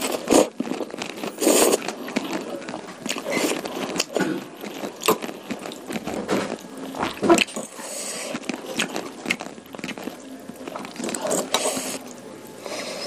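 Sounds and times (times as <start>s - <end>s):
chewing and mouth noises: 0.0s - 12.9s.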